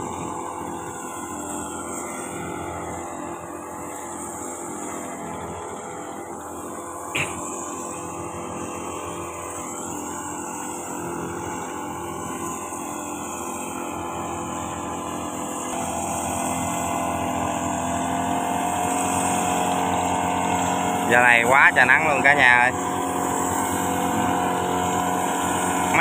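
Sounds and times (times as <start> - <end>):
two-stroke engine running steadily: 0.0 - 26.0.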